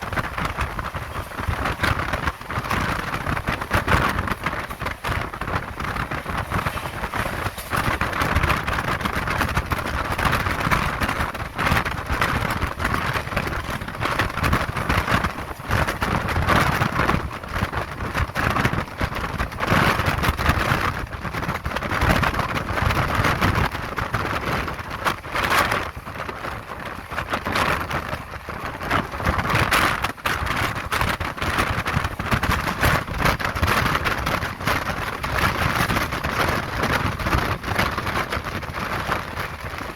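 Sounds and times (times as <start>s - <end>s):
train wheels on rails: 0.0s - 39.9s
wheels clattering over track: 0.0s - 39.9s
wind rushing: 0.0s - 39.9s.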